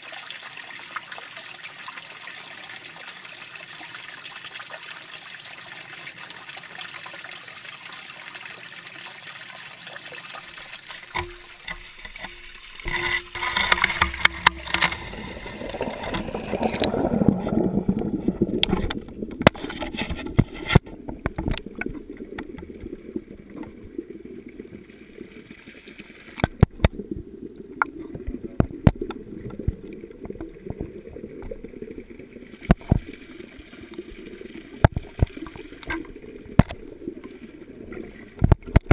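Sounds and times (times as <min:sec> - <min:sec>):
water trickling in fish tank: 0:00.0 - 0:38.9.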